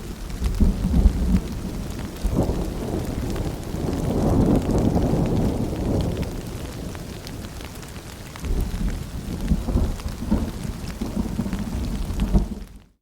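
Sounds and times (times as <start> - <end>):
rolling thunder rumble: 0.0 - 7.5, 8.4 - 12.8
steady rain: 0.0 - 13.0.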